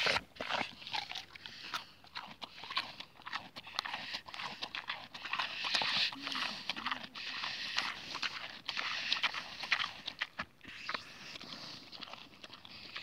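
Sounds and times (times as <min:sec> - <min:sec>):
boar chewing grass: 0:00.0 - 0:13.0.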